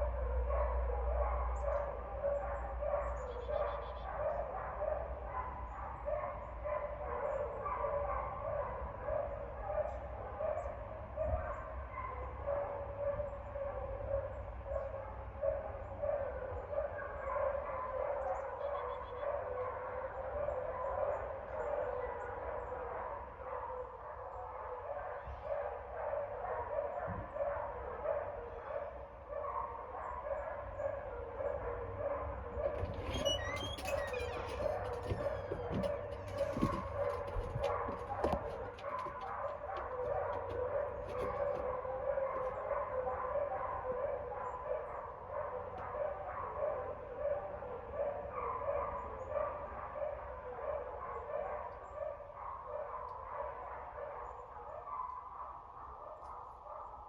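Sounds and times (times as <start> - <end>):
dog barking: 0.0 - 57.0.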